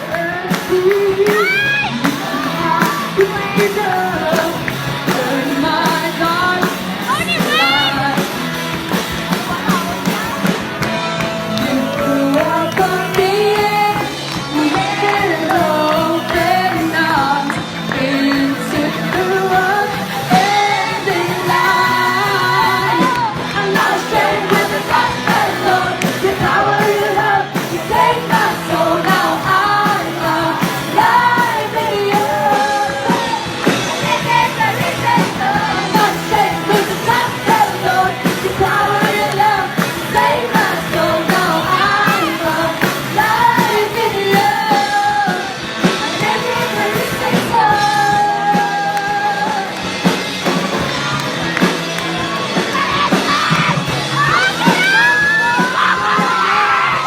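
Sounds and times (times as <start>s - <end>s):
shouting vocals: 0.0s - 8.3s, 11.3s - 49.8s, 51.1s - 57.0s
lead singer singing: 0.0s - 50.9s
rock band playing: 0.0s - 57.0s.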